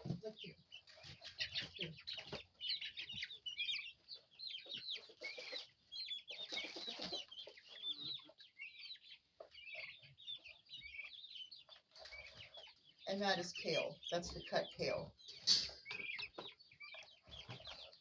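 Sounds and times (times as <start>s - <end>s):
young chickens peeping and clucking: 0.0s - 18.0s.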